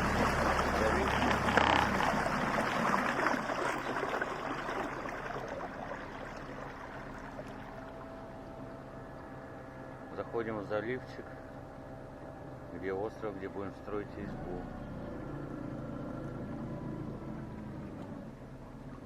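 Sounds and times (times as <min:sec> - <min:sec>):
motorboat engine hum: 0:00.0 - 0:19.0
water rushing along hull: 0:00.0 - 0:19.0.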